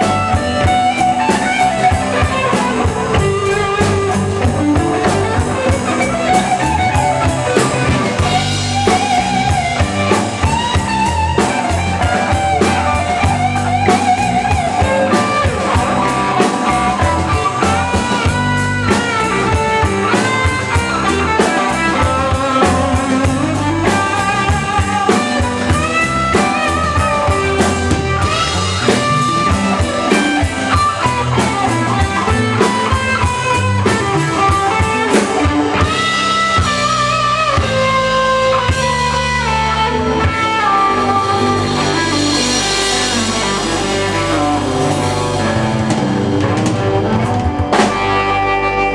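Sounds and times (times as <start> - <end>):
electric guitar: 0.0 - 48.9
live band playing blues-rock: 0.0 - 48.9.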